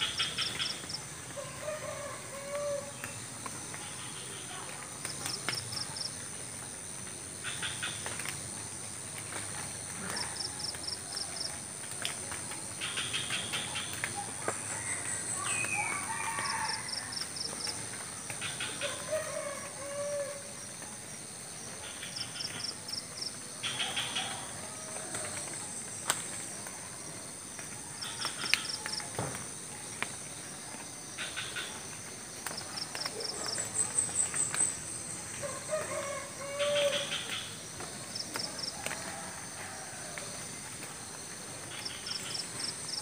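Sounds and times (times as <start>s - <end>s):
insects droning: 0.0s - 43.0s.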